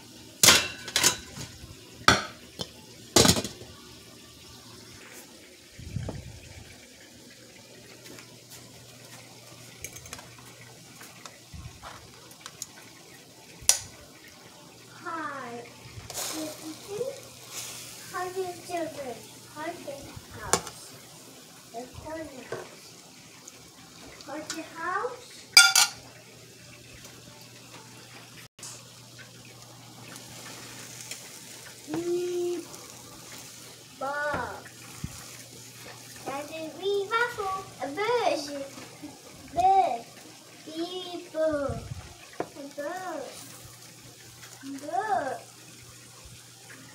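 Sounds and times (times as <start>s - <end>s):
food sizzling in oil: 0.0s - 46.9s.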